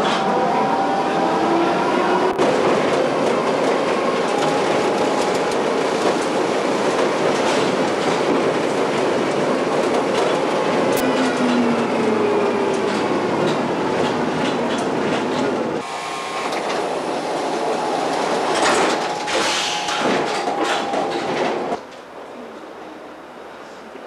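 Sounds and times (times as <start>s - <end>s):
train rumbling on track: 0.0s - 23.6s.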